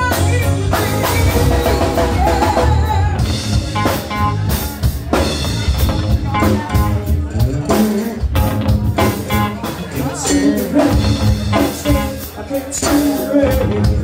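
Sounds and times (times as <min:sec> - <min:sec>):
live band playing blues: 0:00.0 - 0:14.0.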